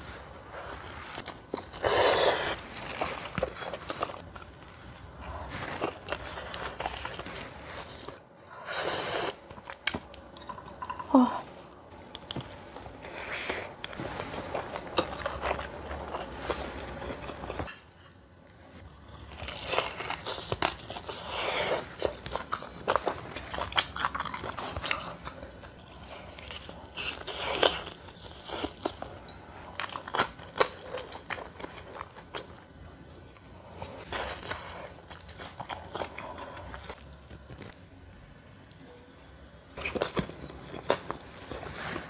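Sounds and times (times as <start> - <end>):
chewing and crunching: 0.6 - 8.2, 11.7 - 17.9, 18.8 - 37.8, 39.4 - 42.0.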